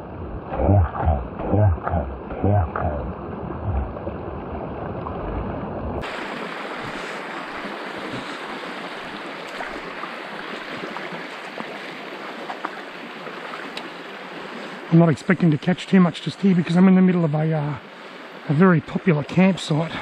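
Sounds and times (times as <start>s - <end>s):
creek water rushing over pebbles: 0.0s - 20.0s.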